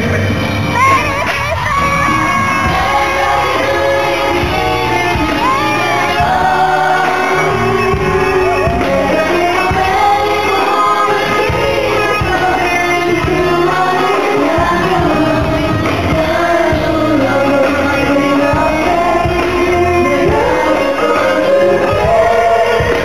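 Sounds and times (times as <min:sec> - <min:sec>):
live band playing pop music: 0:00.0 - 0:23.0
man singing into microphone: 0:01.8 - 0:23.0.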